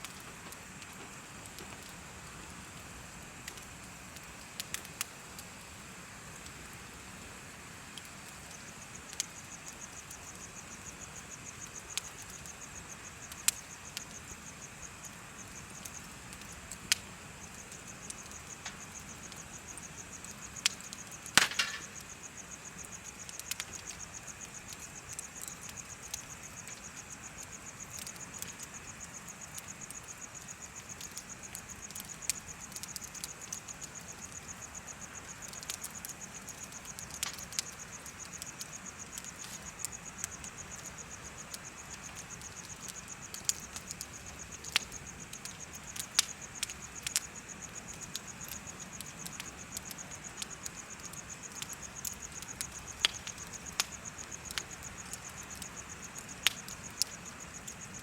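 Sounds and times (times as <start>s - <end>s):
bonfire crackling and popping: 0.0s - 58.0s
insects trilling: 0.0s - 58.0s.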